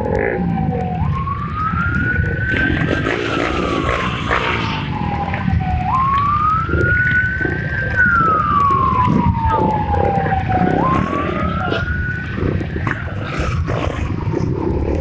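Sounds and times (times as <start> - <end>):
low rumble of engines: 0.0 - 15.0
wailing siren: 0.0 - 15.0.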